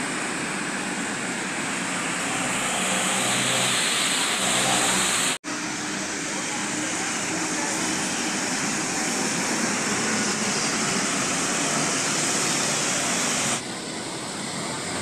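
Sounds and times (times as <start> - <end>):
bus driving off: 0.0 - 15.0
traffic noise: 0.0 - 15.0
tyres hissing on wet road: 0.0 - 15.0.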